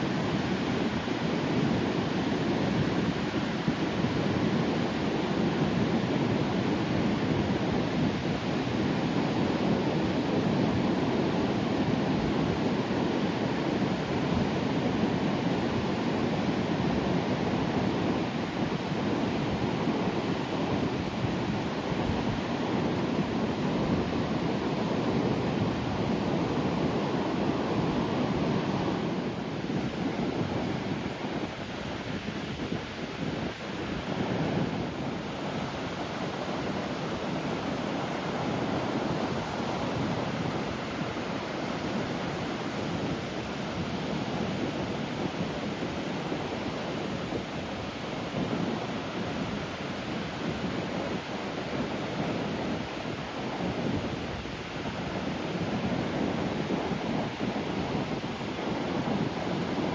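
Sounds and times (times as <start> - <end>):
sea waves breaking on shore: 9.6 - 59.9.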